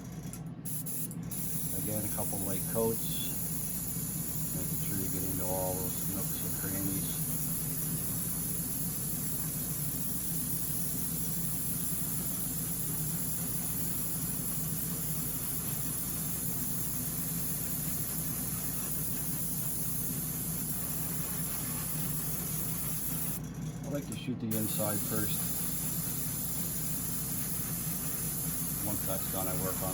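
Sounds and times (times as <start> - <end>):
paint spray gun hissing: 0.7 - 23.4, 24.5 - 29.9.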